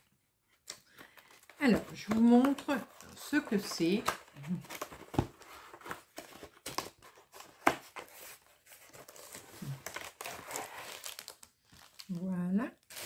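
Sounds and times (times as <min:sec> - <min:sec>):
packaging rustling and crinkling: 0:00.8 - 0:12.2.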